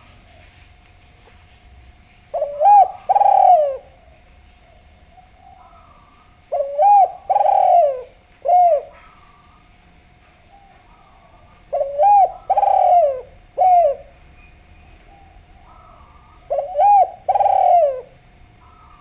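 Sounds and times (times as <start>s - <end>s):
dove cooing: 2.3s - 19.0s.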